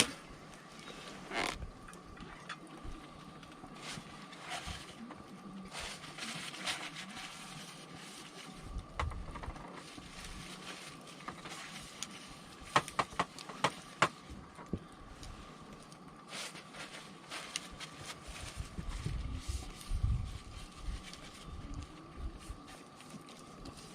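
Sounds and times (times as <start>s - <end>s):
campfire crackling and hissing: 0.0s - 23.9s.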